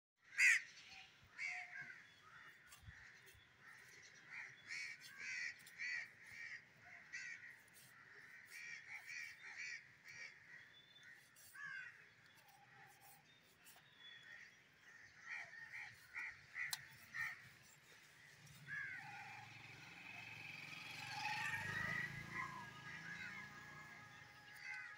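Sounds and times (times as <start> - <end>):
crows cawing: 0.2 - 12.9, 14.2 - 19.9, 20.7 - 24.9.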